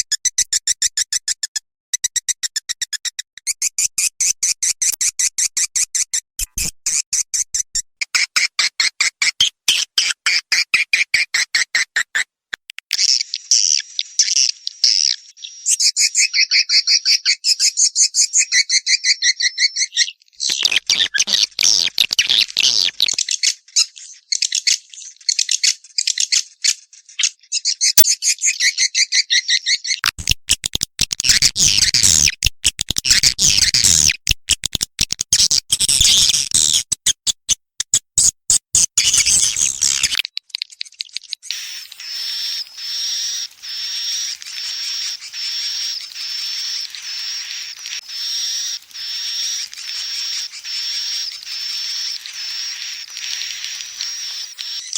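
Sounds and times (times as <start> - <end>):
swiftlet clicks and chirps: 0.0 - 15.1, 20.4 - 24.8, 30.0 - 54.9.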